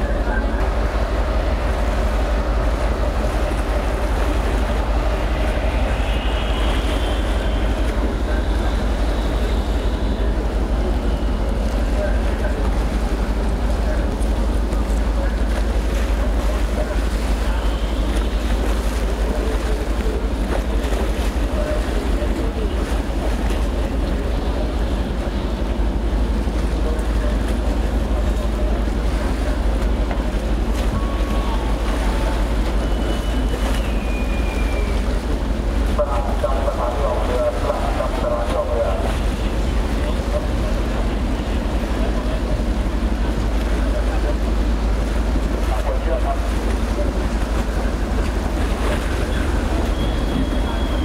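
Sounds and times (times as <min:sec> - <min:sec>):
boat engine rumbling: 0:00.0 - 0:51.0
sea wash against hull: 0:00.0 - 0:51.0.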